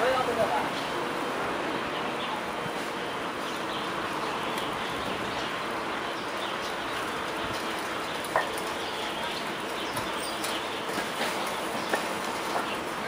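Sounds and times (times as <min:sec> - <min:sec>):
bicycle road noise: 0:00.0 - 0:13.0.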